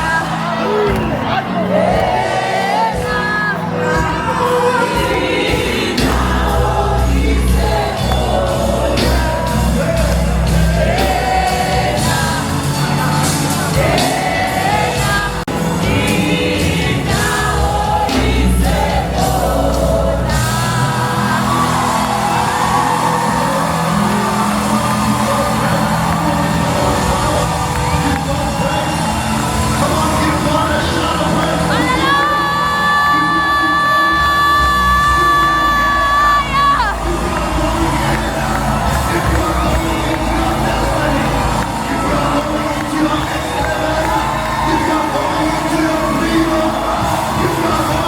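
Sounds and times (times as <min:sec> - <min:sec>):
band with heavy bass and drums: 0:00.0 - 0:48.0
gospel singers and choir: 0:00.0 - 0:48.0.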